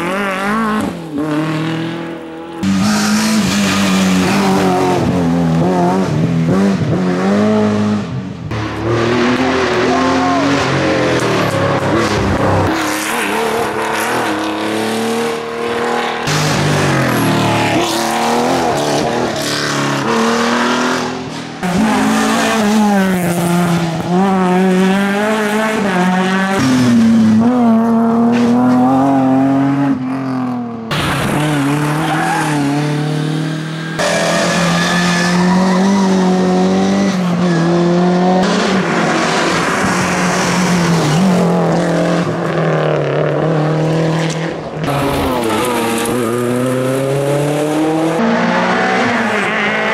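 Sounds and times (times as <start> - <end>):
engines revving through gear changes: 0.0 - 49.9
rally cars passing at full speed: 0.0 - 49.9.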